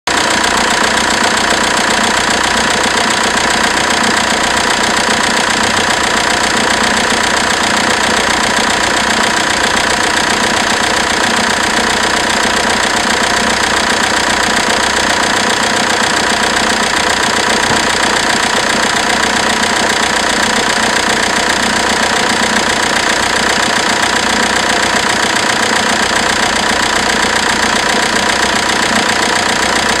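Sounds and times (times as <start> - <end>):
diesel engine idling: 0.1 - 30.0.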